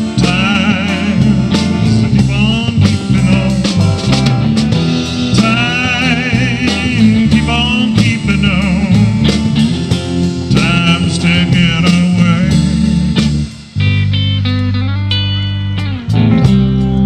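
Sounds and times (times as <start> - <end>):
live rock band: 0.0 - 17.0
wavering lead guitar notes: 0.0 - 17.0.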